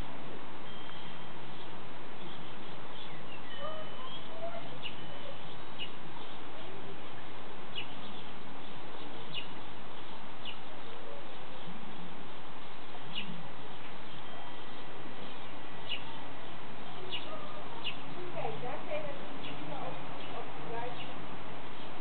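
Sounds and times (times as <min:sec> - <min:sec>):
birds chirping: 0:00.0 - 0:22.0
steady background hiss: 0:00.0 - 0:22.0.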